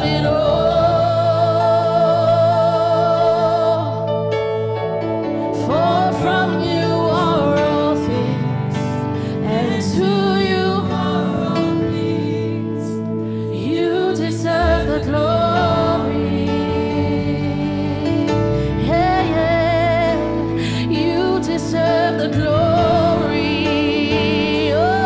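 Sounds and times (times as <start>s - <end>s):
person singing: 0.0s - 4.5s, 5.3s - 25.0s
keyboard chords: 0.0s - 25.0s
low bass: 0.0s - 25.0s.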